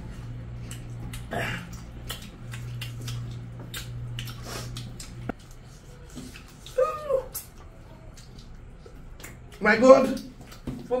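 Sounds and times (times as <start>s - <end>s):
steady low hum: 0.0s - 11.0s
mouth smacks and clicks: 0.6s - 5.6s, 6.2s - 10.9s.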